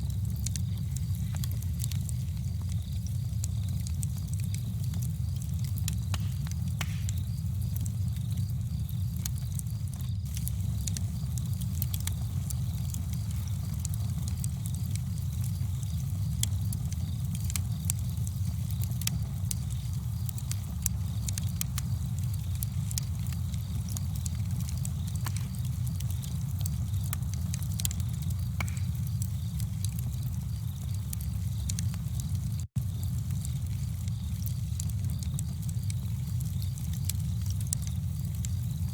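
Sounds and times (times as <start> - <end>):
campfire crackling and popping: 0.0 - 38.9
low rumble of burning: 0.0 - 38.9.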